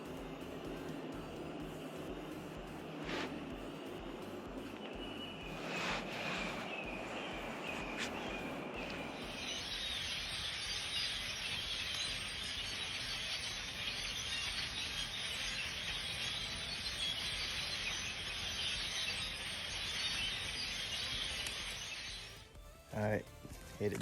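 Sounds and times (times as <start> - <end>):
high outdoor hiss: 0.0 - 24.0.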